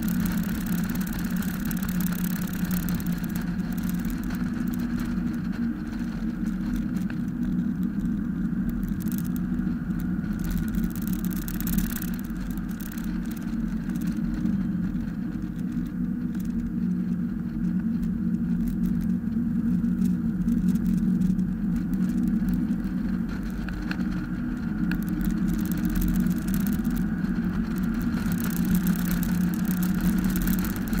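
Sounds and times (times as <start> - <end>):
car engine running hard: 0.0 - 31.0.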